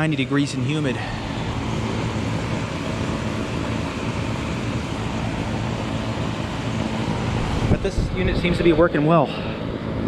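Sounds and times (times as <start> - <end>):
air conditioner hum: 0.0 - 10.0
outdoor fan rushing: 0.0 - 10.0.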